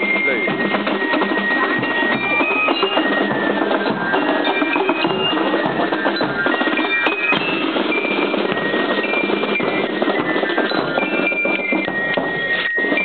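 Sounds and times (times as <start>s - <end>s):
band music with percussion: 0.0s - 13.0s
dense crowd noise: 0.0s - 13.0s.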